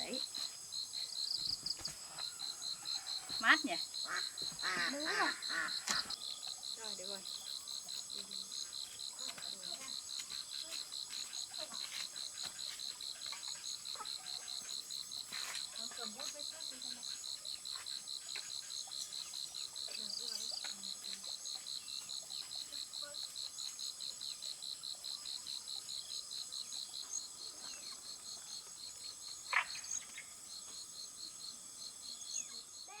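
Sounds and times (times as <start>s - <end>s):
insects buzzing: 0.0s - 33.0s
insects chirping rhythmically: 0.0s - 33.0s.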